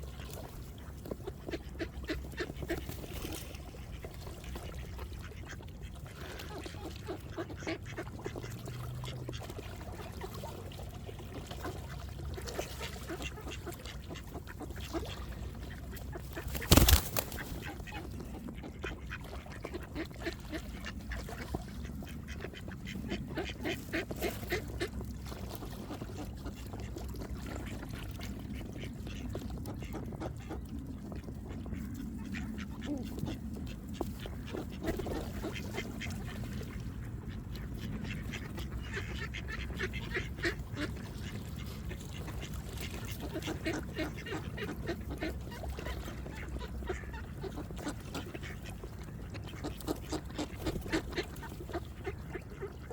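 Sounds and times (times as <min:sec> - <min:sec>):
ducks quacking: 0:01.2 - 0:09.8, 0:11.6 - 0:25.0, 0:25.9 - 0:52.9.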